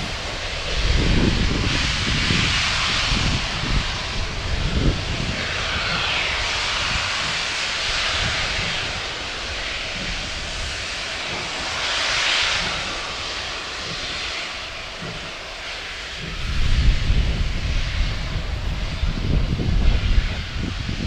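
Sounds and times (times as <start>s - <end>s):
low rumble: 0.0s - 21.0s
steam hissing from locomotive: 0.0s - 21.0s.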